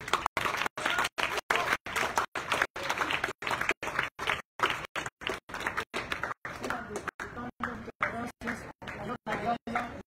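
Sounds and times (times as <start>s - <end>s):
small group applauding: 0.0s - 10.0s.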